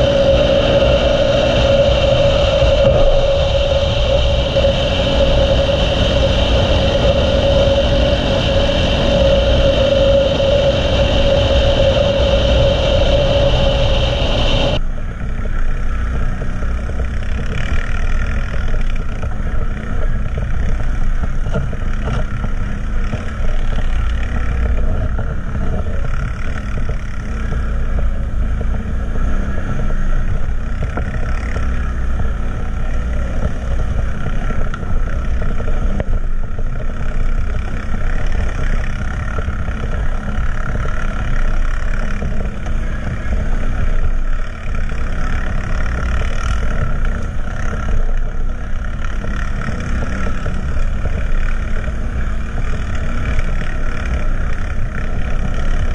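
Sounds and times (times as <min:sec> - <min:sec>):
atv engine running: 0:00.0 - 0:55.9
high engine whine: 0:00.0 - 0:55.9.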